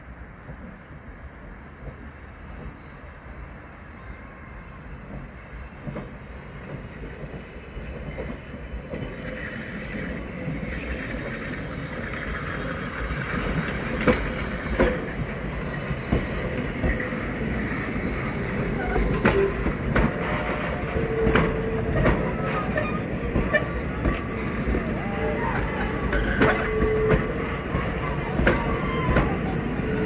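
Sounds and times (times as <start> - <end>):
train wheels rumbling: 0.0 - 30.0
wheels squealing on rails: 0.7 - 30.0.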